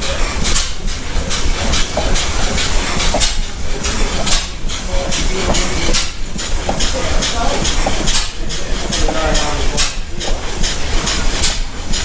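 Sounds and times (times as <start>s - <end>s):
hissing exhaust puffs: 0.0s - 12.0s
vintage engine running: 0.0s - 12.0s.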